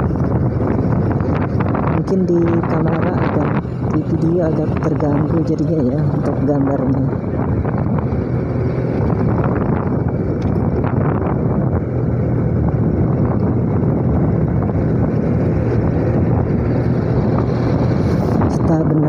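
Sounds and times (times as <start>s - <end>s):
motorcycle engine hum: 0.0s - 19.0s
wind rushing over microphone: 0.0s - 19.0s.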